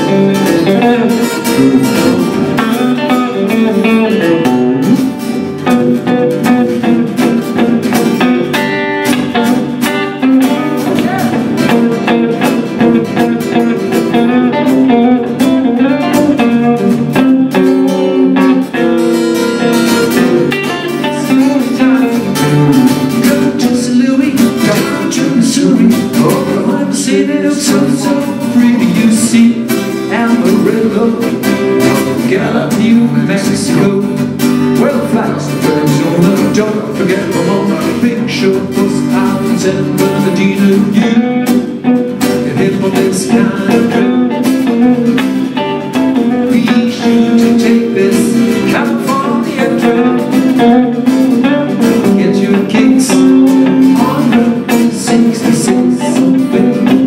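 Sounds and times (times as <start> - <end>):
electric guitar playing lead: 0.0 - 57.0
strummed acoustic guitar: 0.0 - 57.0.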